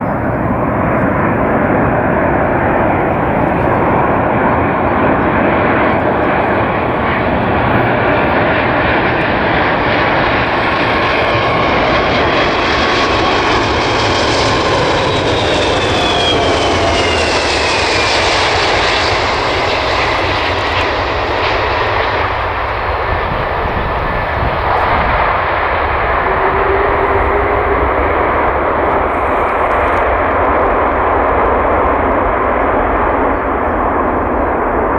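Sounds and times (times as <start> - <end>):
jet engines rumble and whine: 0.0 - 34.9.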